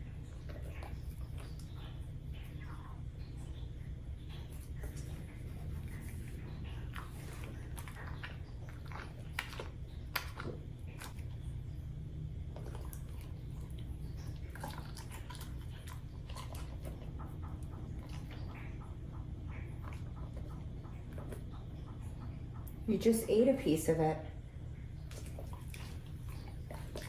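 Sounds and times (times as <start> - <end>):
dog chewing and crunching: 0.0 - 22.9, 25.0 - 27.0.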